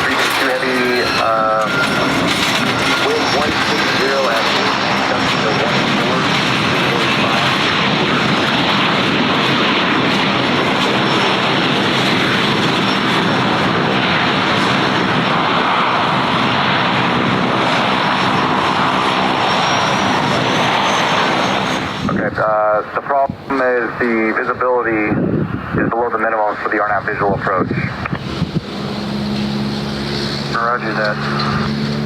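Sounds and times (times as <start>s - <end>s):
airliner engines running: 0.0s - 32.0s.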